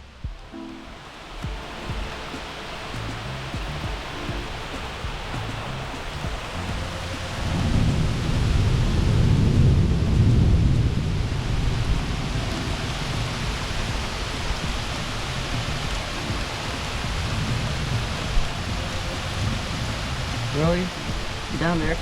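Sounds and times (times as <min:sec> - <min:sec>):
heavy rain: 0:00.0 - 0:22.0
thunder rumbling: 0:00.0 - 0:22.0.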